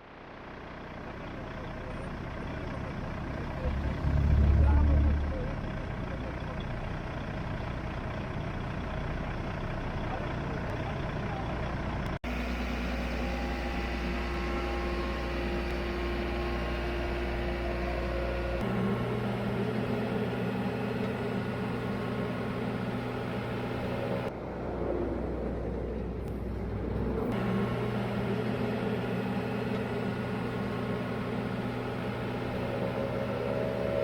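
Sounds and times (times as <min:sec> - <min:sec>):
road machinery engines running: 0:00.0 - 0:34.0.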